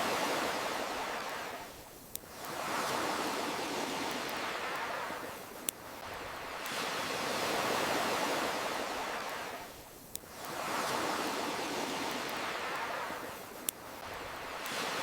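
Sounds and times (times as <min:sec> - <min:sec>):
ocean waves washing ashore: 0:00.0 - 0:15.0.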